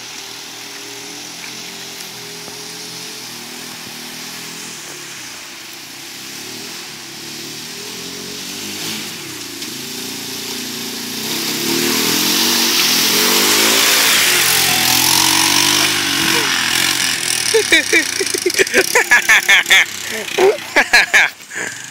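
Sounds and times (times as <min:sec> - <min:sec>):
atv engine revving: 0:00.0 - 0:21.9
mud splashing from tyres: 0:00.0 - 0:21.9.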